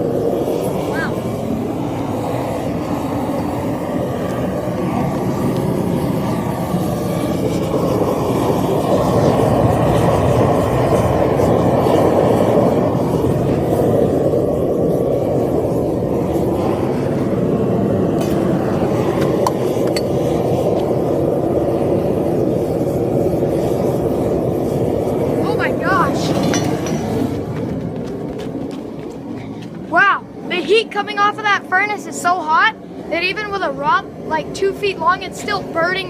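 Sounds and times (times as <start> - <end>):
burner flame rushing: 0.0 - 36.0.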